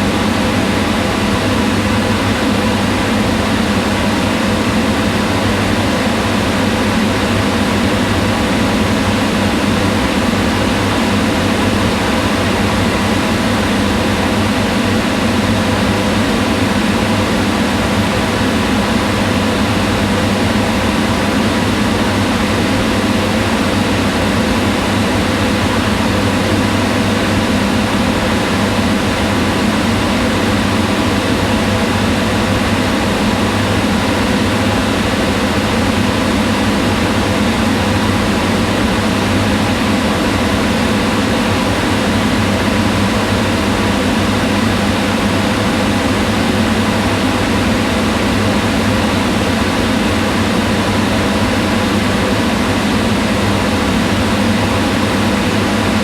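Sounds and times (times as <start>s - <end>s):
range hood exhaust fan running: 0.0s - 56.0s.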